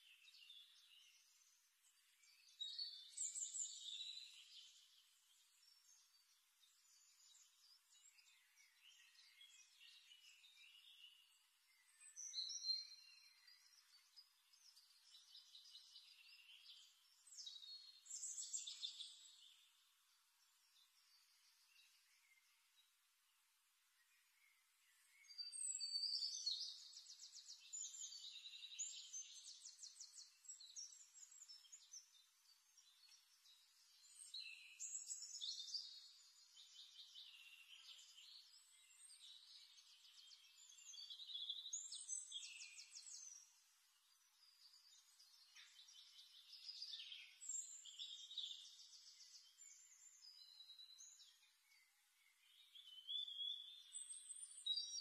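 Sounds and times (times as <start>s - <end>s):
faint high-pitched bird song: 0.0s - 55.0s.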